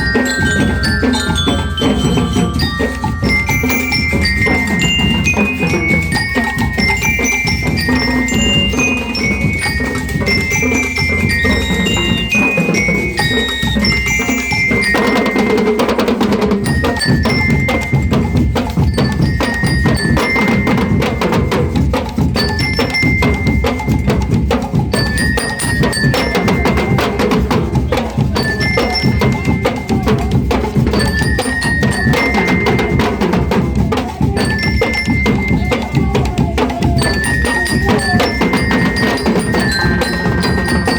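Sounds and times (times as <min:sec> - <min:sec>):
bell lyres playing a melody: 0:00.0 - 0:40.9
marching drums: 0:00.0 - 0:40.9.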